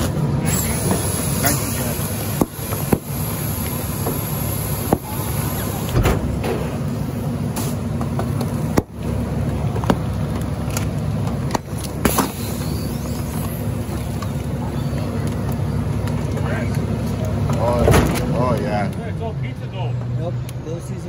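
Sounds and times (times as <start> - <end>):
garbage truck humming: 0.0 - 19.0.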